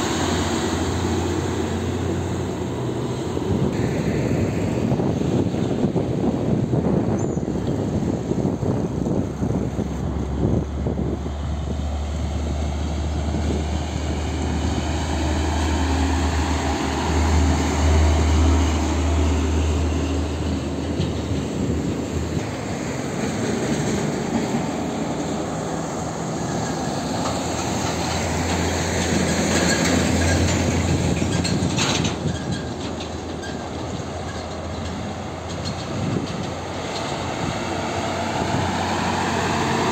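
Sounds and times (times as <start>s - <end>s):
diesel trucks passing: 0.0s - 39.9s
tyre and road noise: 0.0s - 39.9s.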